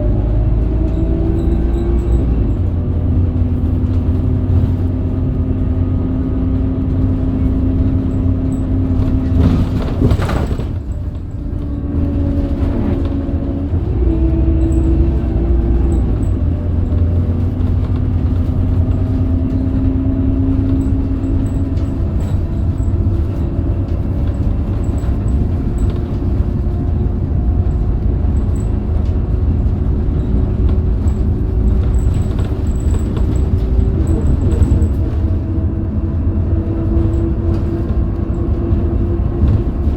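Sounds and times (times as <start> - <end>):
bus diesel engine rumbling: 0.0 - 39.9.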